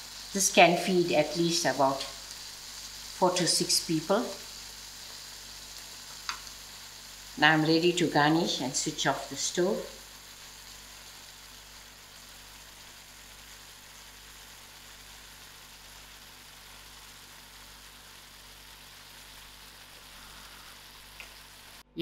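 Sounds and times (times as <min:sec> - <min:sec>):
pan sizzling on stove: 0:00.0 - 0:21.9.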